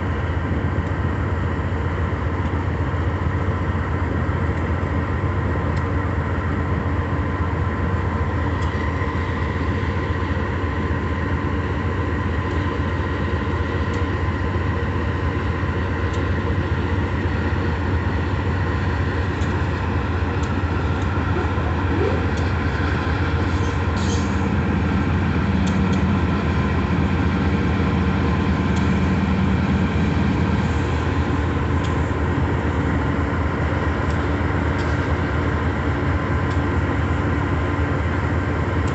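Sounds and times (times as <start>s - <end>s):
diesel locomotive droning: 0.0s - 38.9s.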